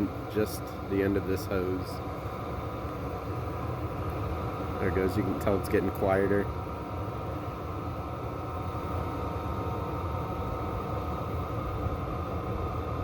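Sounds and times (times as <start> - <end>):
heater burner and fan rushing: 0.0 - 13.0
thin steady whine: 0.0 - 13.0.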